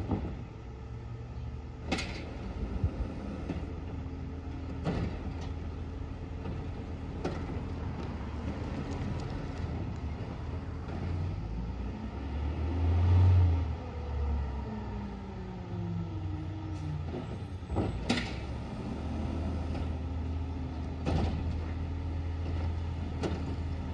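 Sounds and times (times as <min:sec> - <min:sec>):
garbage truck diesel rumble: 0:00.0 - 0:23.9.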